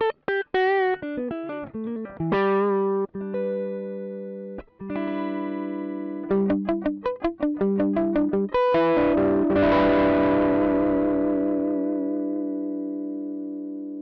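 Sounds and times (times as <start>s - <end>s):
electric guitar with overdrive: 0.0s - 14.0s.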